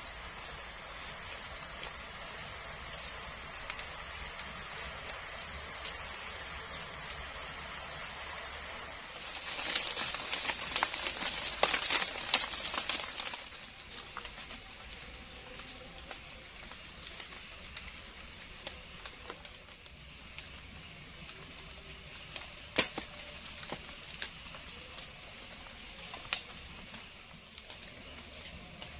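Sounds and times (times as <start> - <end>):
close rustling and crackling: 0.0 - 28.9
steady hiss: 0.0 - 28.9.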